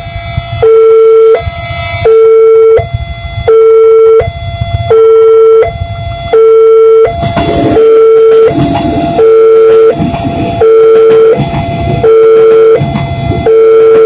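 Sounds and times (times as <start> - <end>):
electric train rumble: 0.0 - 14.0
two-tone crossing alarm: 0.0 - 14.0.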